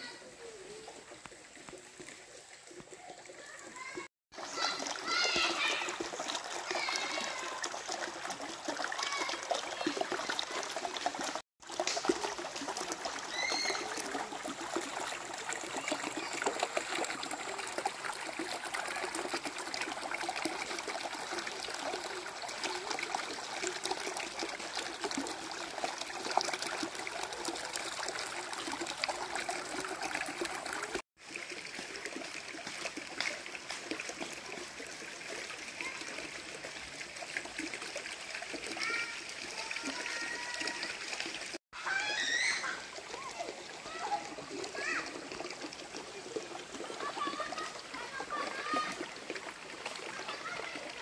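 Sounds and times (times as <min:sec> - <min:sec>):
stream trickling over rocks: 0:00.0 - 0:51.0.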